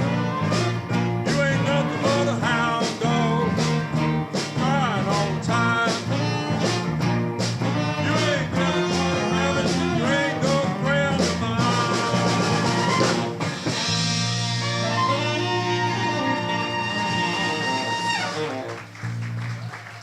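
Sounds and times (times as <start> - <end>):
lead guitar with bent notes: 0.0 - 18.8
blues rock band playing: 0.0 - 19.5
drums: 0.0 - 20.0.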